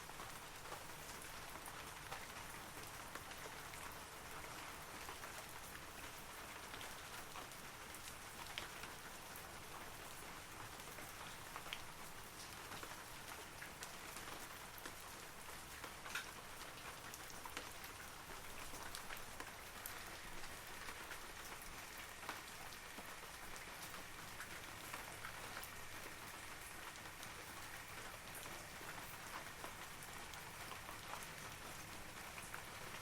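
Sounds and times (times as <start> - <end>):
rain on leaves: 0.0 - 33.0.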